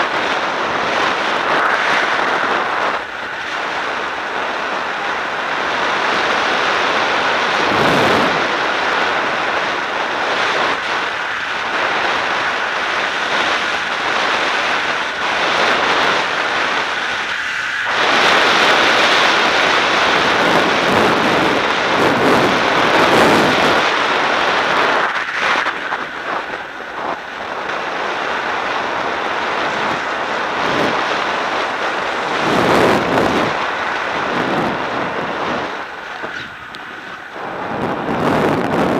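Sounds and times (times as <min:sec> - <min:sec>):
skis scraping on snow: 0:00.0 - 0:05.0, 0:05.6 - 0:38.9
wind rushing on microphone: 0:00.0 - 0:38.9.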